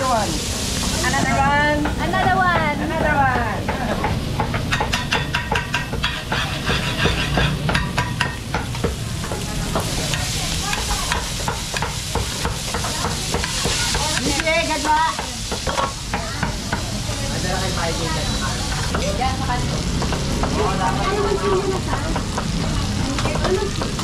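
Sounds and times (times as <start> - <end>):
meat sizzling on hot plates: 0.0 - 24.0.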